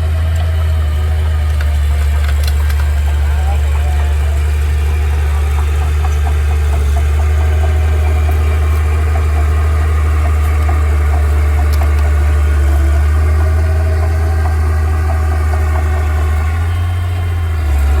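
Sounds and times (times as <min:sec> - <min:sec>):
vehicle engine idling: 0:00.0 - 0:18.0
faint ticking: 0:00.3 - 0:18.0.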